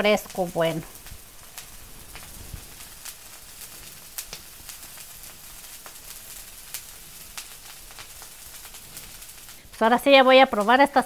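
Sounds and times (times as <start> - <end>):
crackles and light clicks: 0.0 - 11.0
food sizzling: 0.0 - 11.0.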